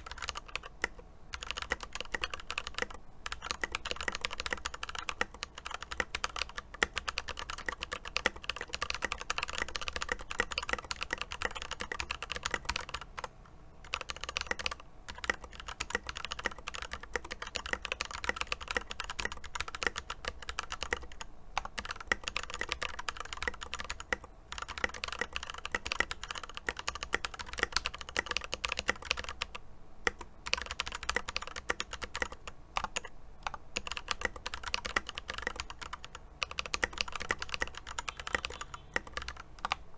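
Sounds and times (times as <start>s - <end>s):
fast typing on mechanical keyboard: 0.0s - 39.8s.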